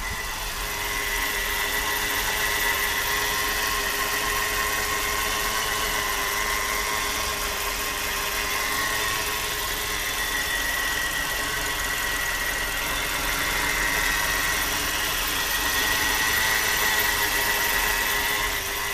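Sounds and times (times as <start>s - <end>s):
car engine idling: 0.0s - 18.9s
steady high-pitched whine: 0.0s - 18.9s.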